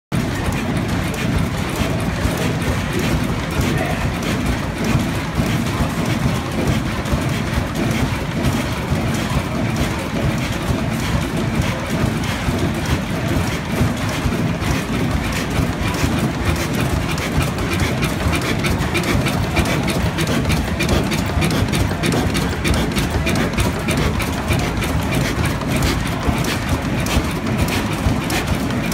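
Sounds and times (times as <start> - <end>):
stationary diesel engine running: 0.2 - 28.9.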